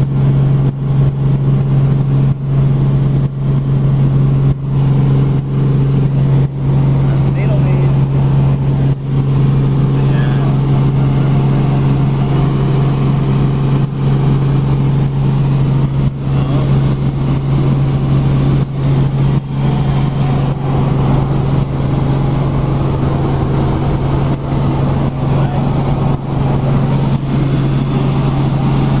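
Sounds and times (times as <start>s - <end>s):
helicopter droning: 0.0s - 29.0s.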